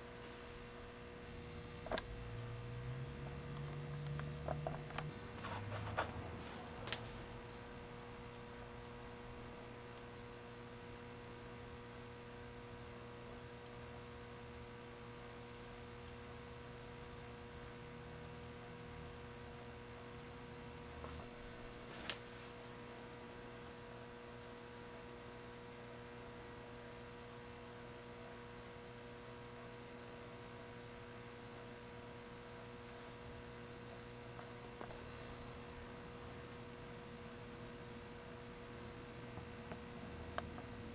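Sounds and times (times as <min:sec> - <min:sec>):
electrical hum: 0:00.0 - 0:40.9.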